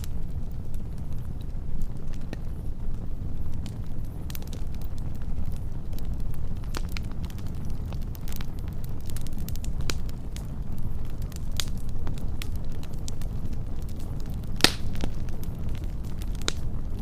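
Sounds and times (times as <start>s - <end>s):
fire crackling and popping: 0.0s - 17.0s
wood fire roaring: 0.0s - 17.0s.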